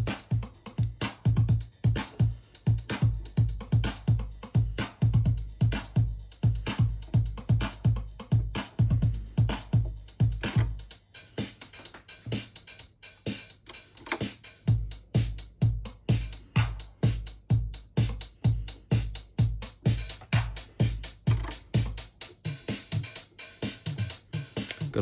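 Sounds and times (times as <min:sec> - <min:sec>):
drum machine hi-hats: 0:00.0 - 0:25.0
drum machine kick drum: 0:00.0 - 0:25.0.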